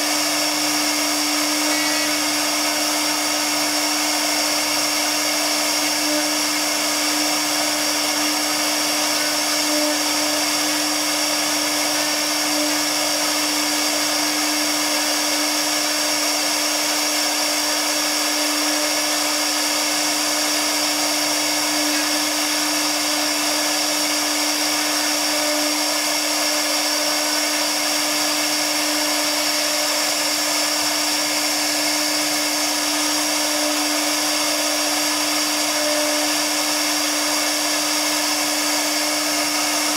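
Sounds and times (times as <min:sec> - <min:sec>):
bit cutting board: 0:00.0 - 0:39.9
router spindle whine: 0:00.0 - 0:39.9.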